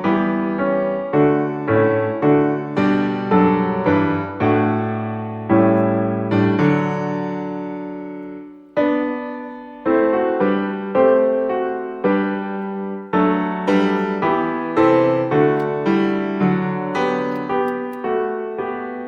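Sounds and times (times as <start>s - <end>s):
piano chords ringing out: 0.0s - 19.0s.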